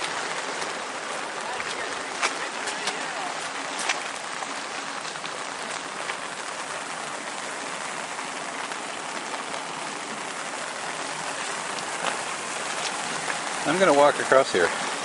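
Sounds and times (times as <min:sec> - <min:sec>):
heavy rain falling: 0:00.0 - 0:15.0
river rushing: 0:00.0 - 0:15.0.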